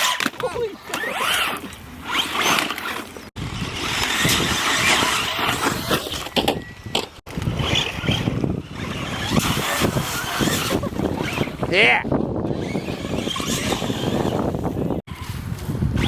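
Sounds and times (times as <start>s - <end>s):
toy truck motor running: 0.9s - 6.6s, 7.3s - 11.7s, 12.4s - 15.2s.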